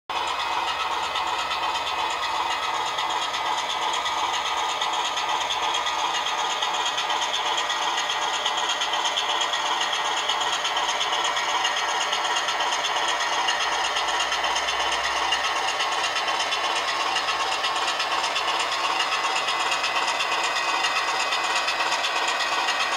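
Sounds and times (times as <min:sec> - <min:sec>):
diesel engine idling through small speaker: 0:00.1 - 0:22.9.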